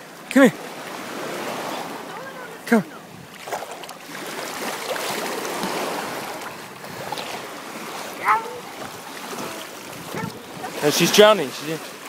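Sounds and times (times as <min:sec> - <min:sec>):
water washing and splashing: 0:00.0 - 0:12.0.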